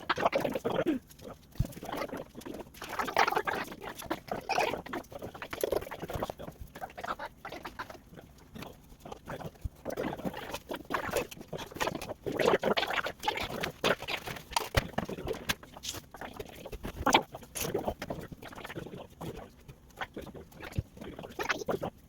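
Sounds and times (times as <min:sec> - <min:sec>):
rustling of craft materials: 0:00.0 - 0:22.0.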